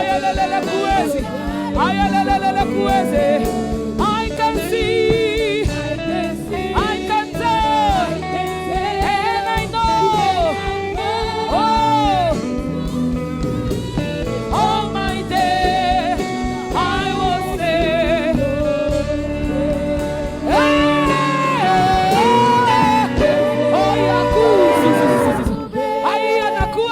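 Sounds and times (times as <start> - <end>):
solo voice singing gospel: 0.0 - 26.9
sustained instrumental accompaniment: 0.0 - 26.9.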